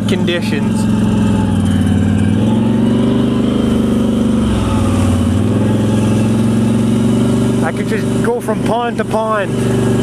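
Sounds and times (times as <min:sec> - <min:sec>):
atv engine running under throttle: 0:00.0 - 0:10.0.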